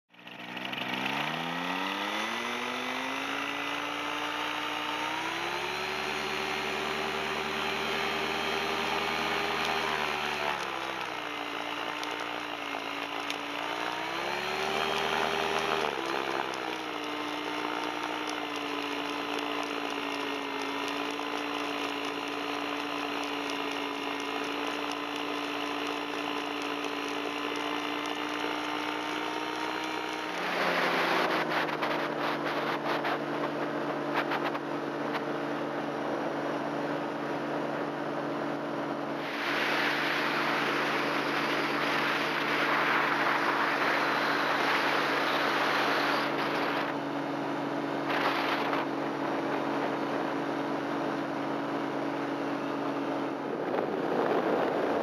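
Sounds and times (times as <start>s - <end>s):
paramotor engine revving: 0.1s - 55.0s.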